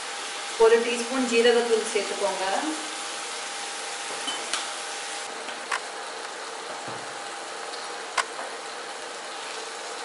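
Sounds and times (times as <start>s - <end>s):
masala sizzling in a frying pan: 0.0s - 10.0s.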